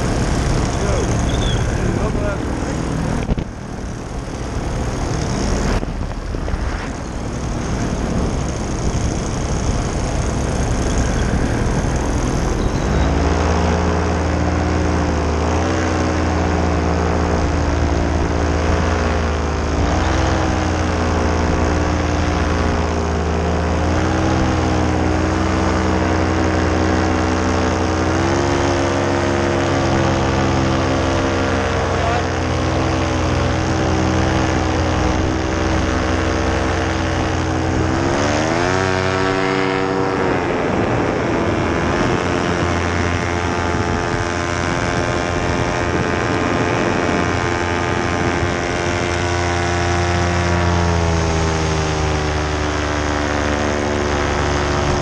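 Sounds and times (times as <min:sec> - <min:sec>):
paramotor engine drone: 0:00.0 - 0:55.0
wind rush on microphone: 0:00.0 - 0:55.0.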